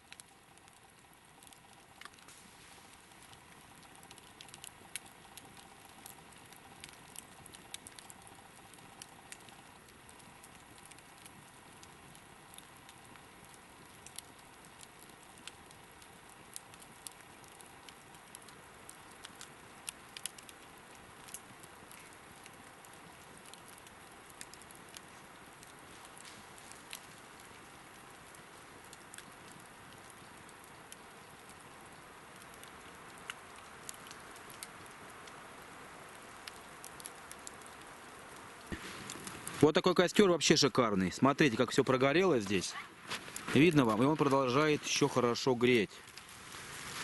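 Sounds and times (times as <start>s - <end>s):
campfire crackling and hissing: 0.0s - 47.0s.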